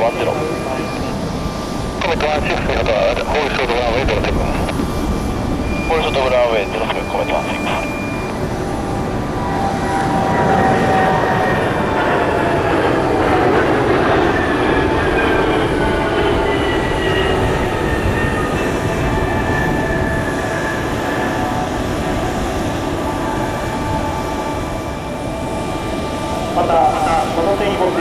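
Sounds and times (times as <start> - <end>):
jet engines passing overhead: 0.0 - 28.0.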